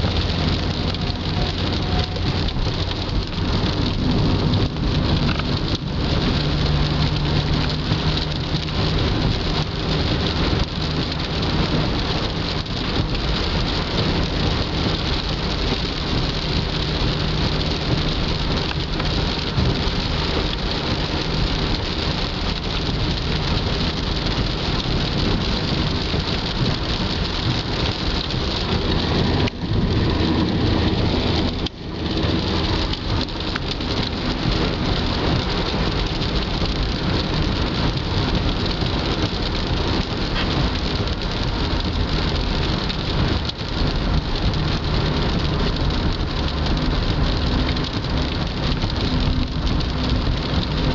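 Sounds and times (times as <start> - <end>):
engine hum: 0.0 - 50.9
heavy rain on car roof: 0.0 - 50.9
tyre noise on wet road: 0.0 - 50.9.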